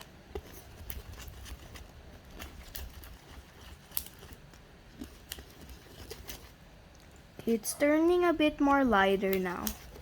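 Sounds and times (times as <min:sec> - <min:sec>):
stirring slime in a bowl: 0:00.0 - 0:10.0.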